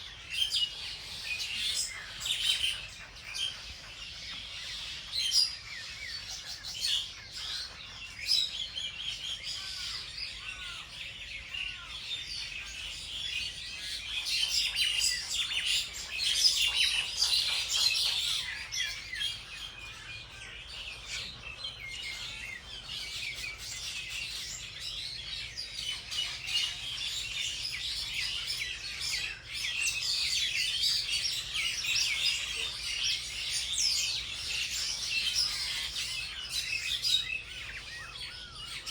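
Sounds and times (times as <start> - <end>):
small birds chirping in chorus: 0.0 - 38.9.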